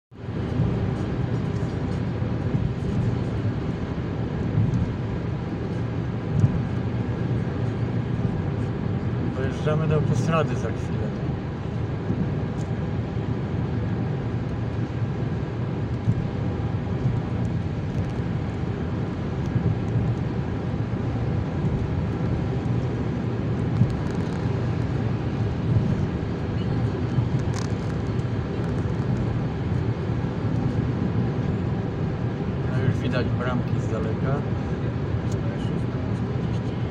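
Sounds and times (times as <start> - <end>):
car engine and tyre noise: 0.1 - 36.9.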